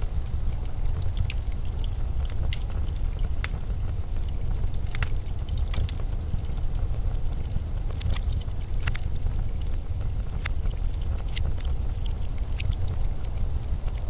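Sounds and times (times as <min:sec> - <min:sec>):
low steady wind: 0:00.0 - 0:14.0
short crackles and ticks: 0:00.0 - 0:14.0.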